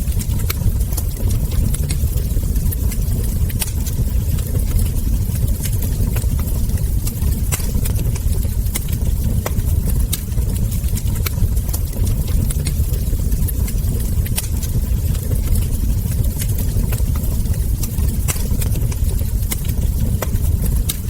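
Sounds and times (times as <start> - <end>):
fire crackling and ember pops: 0.0 - 21.0
wood fire rumbling: 0.0 - 21.0.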